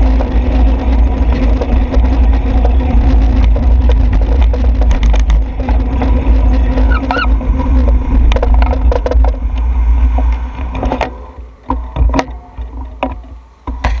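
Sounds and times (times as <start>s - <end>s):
rattles and knocks: 0.0s - 14.0s
steady hum: 0.0s - 14.0s
wind and road noise rumble: 0.0s - 14.0s.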